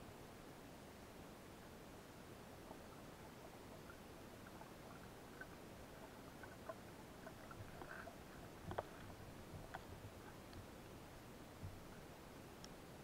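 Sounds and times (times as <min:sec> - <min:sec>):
muffled water noise: 0:00.0 - 0:13.0.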